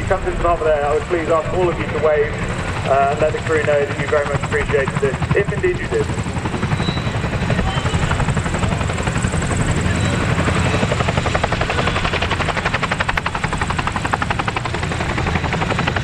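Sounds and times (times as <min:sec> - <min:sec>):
helicopter engine rumble: 0:00.0 - 0:16.0
helicopter rotor blades beating: 0:00.0 - 0:16.0.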